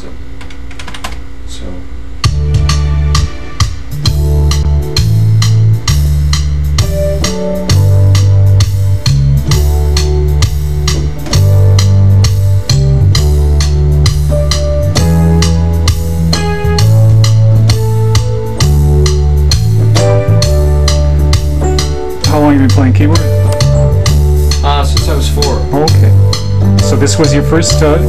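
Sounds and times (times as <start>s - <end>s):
keyboard parts: 0.0s - 28.0s
programmed drum beat: 0.0s - 28.0s
bass line: 2.0s - 28.0s.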